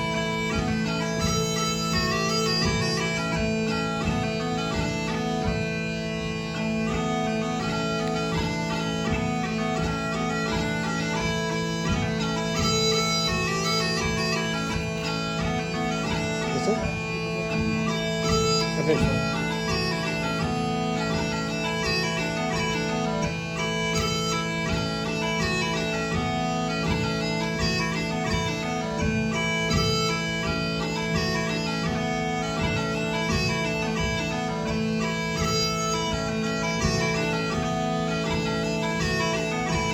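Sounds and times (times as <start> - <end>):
bagpipe drones: 0.0 - 39.9
smallpipes melody: 0.0 - 39.9.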